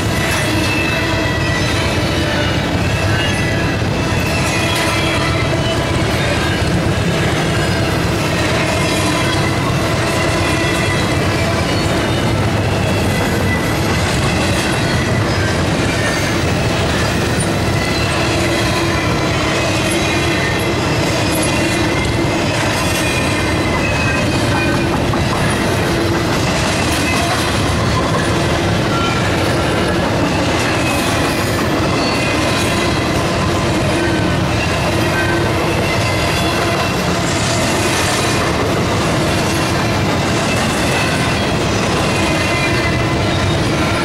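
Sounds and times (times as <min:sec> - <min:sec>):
high wheel squeals: 0:00.0 - 0:44.0
train wheels rumbling on rail: 0:00.0 - 0:44.0.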